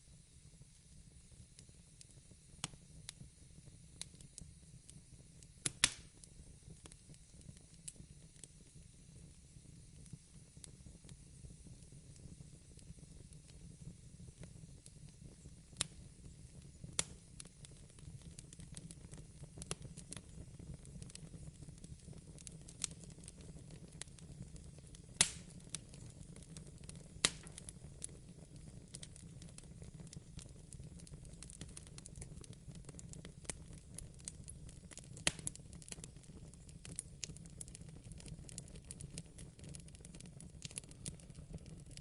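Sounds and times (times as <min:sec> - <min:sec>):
fireplace fire crackling: 0:00.0 - 0:42.0.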